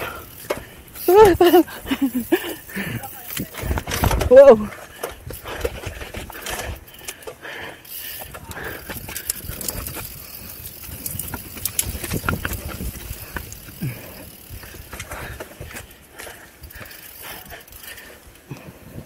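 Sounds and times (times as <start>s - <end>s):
bike rattling and knocking: 0.0s - 19.0s
bike tyres rumbling on dirt: 0.0s - 19.0s.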